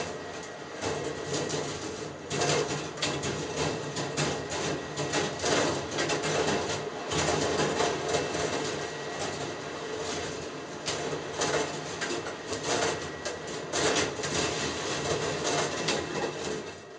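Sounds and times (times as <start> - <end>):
small mechanical clicks and clacks: 0.4 - 16.9.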